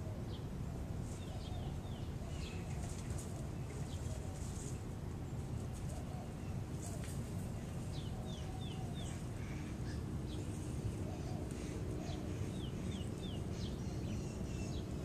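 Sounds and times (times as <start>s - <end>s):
low background rumble: 0.0s - 15.0s
wild birds chirping: 0.0s - 15.0s.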